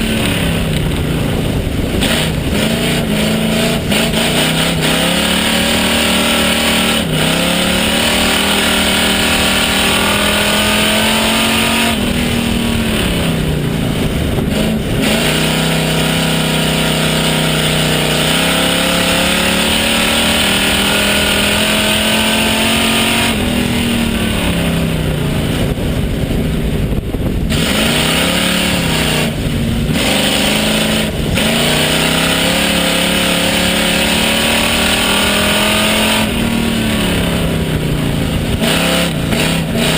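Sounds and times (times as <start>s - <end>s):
race car engine running hard: 0.0s - 39.9s
wind and road noise: 0.0s - 39.9s.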